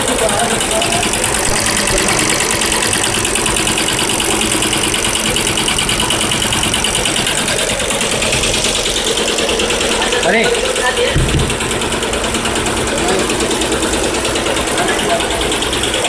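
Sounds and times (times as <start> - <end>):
embroidery machine stitching: 0.0 - 16.0.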